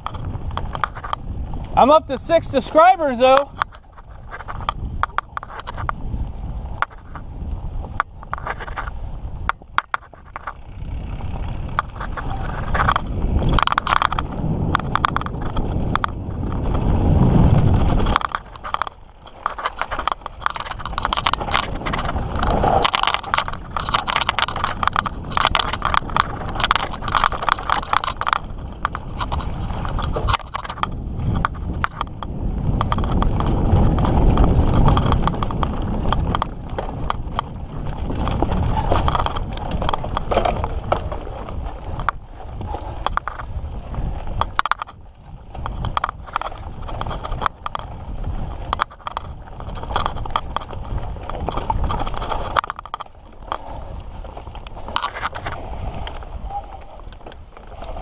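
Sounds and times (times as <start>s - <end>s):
bike clattering over bumps: 0.0s - 1.8s, 3.2s - 56.4s
tyres rolling on dirt: 0.0s - 58.0s.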